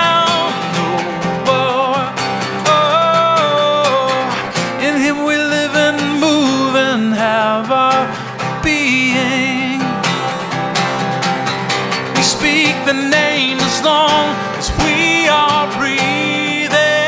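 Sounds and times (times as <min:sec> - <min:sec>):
man singing: 0:00.0 - 0:17.0
strummed acoustic guitar: 0:00.0 - 0:17.0.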